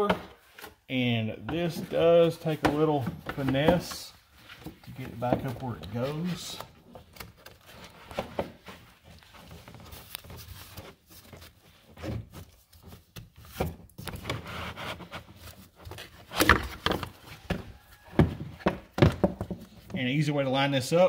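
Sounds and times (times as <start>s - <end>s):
plastic cover scraping and knocking: 1.4s - 20.0s.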